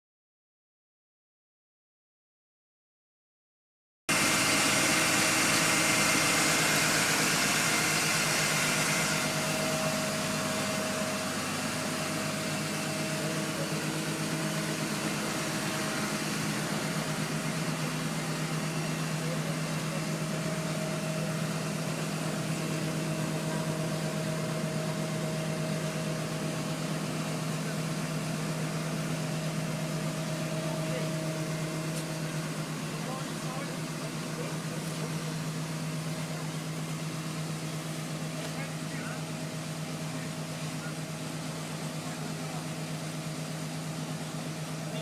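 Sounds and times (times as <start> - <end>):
compressor droning: 4.1 - 45.0.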